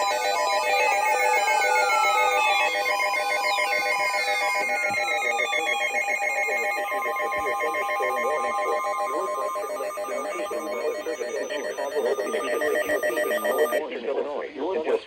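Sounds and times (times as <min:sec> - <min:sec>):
harsh electronic alarm tone: 0:00.0 - 0:13.8.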